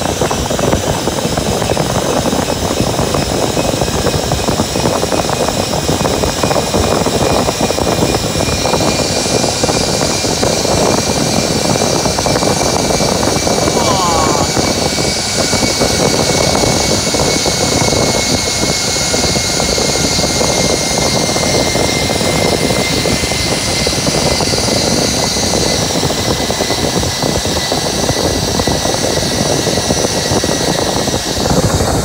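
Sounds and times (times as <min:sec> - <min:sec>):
wind rushing over microphone: 0:00.0 - 0:32.0
zipline pulleys whining: 0:00.0 - 0:32.0.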